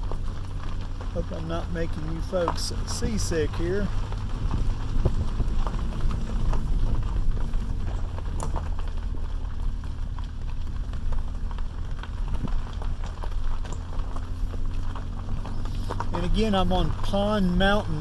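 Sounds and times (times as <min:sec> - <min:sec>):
tyres jolting over gravel: 0:00.0 - 0:18.0
vehicle engine and road drone: 0:00.0 - 0:18.0.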